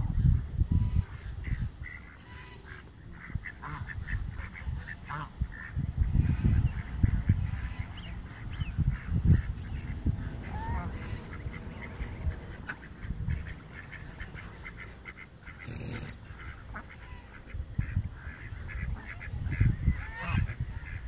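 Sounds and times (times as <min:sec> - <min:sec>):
wind rumbling on microphone: 0:00.0 - 0:21.0
ducks quacking: 0:00.2 - 0:21.0.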